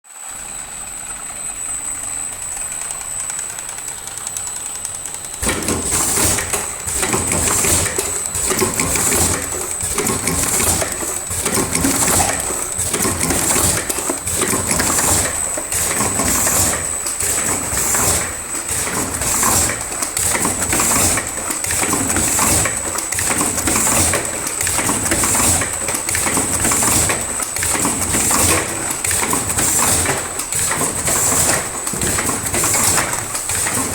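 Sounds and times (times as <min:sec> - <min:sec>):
packaging machine whining: 0:00.2 - 0:33.9.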